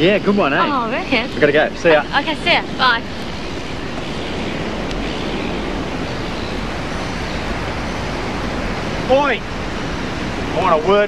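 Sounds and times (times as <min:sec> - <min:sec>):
surf rushing: 0:00.0 - 0:11.0
wind: 0:00.0 - 0:11.0.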